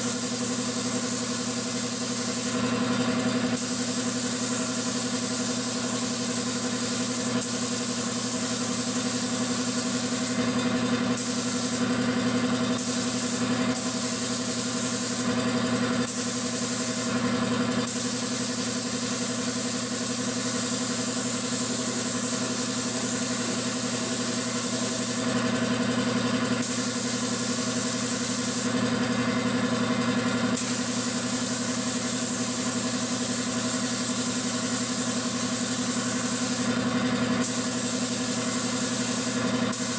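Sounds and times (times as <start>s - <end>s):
paint spray gun hissing: 0.0s - 25.4s, 26.6s - 28.8s, 30.5s - 39.9s
air compressor motor running: 0.0s - 39.9s.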